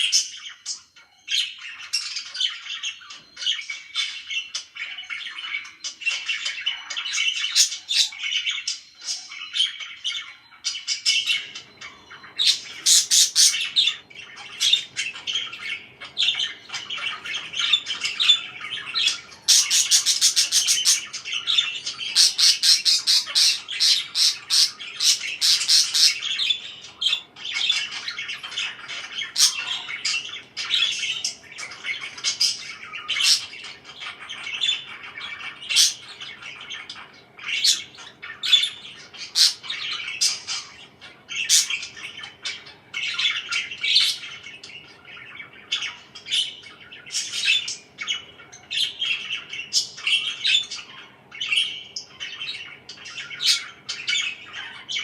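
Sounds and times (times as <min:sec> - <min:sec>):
parakeets chirping and squawking: 0:00.0 - 0:55.0.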